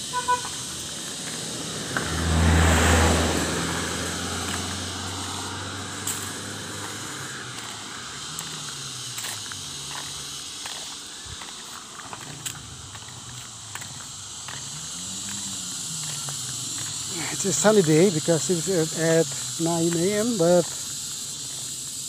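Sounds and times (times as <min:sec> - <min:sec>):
vehicle passing by: 0:00.4 - 0:22.0.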